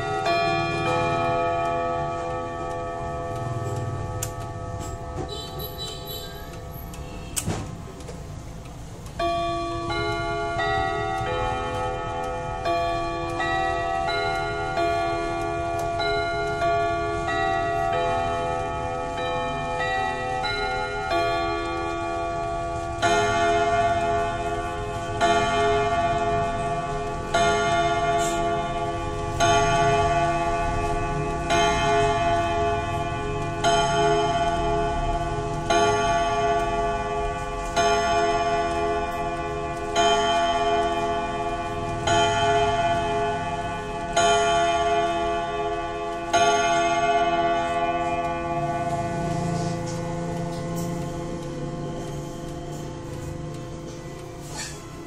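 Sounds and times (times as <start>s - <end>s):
clock chime tune: 0.0s - 7.2s, 9.2s - 55.0s
clock striking chords: 0.0s - 55.0s.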